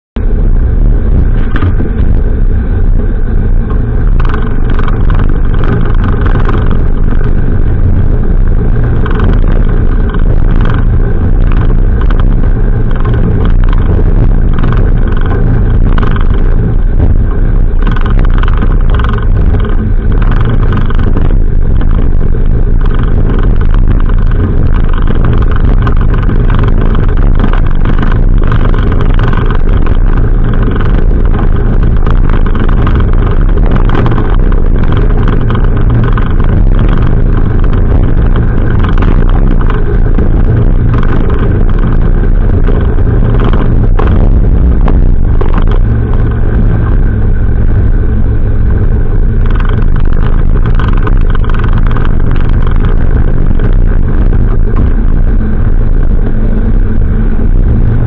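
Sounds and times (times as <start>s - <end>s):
boat engine drone: 0.0s - 58.0s
hull slapping waves: 0.2s - 58.0s
wind buffeting microphone: 0.2s - 58.0s.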